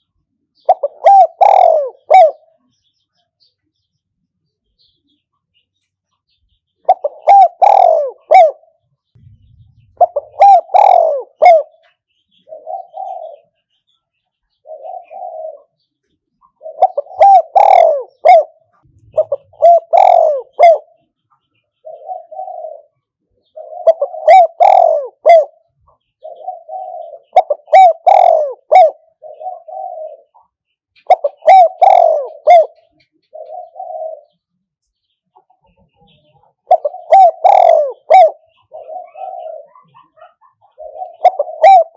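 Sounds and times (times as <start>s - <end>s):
dove cooing: 0.6s - 2.6s, 6.8s - 13.6s, 14.5s - 21.1s, 21.8s - 34.5s, 35.4s - 41.9s.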